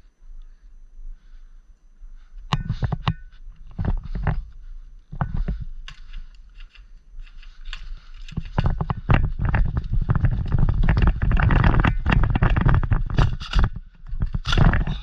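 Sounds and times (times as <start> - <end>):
low thuds of movement and gear: 2.4 - 15.0.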